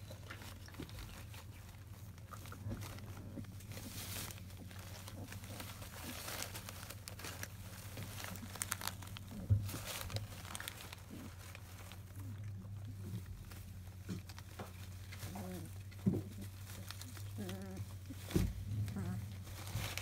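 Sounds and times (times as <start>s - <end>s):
shredded paper rustling: 0.0s - 20.0s.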